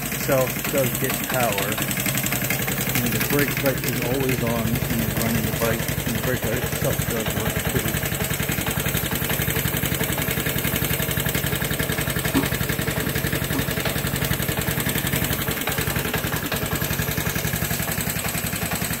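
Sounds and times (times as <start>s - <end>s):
scooter engine idling: 0.0s - 19.0s.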